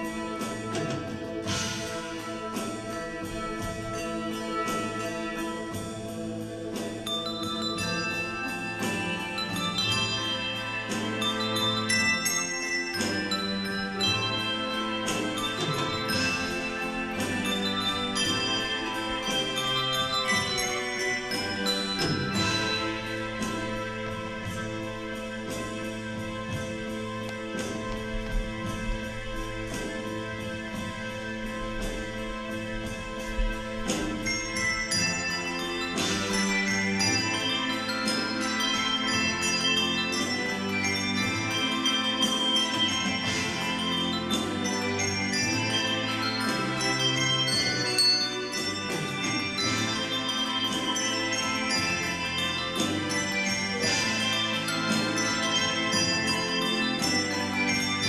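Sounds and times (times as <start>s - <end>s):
handbells ringing chords: 0.0s - 58.0s.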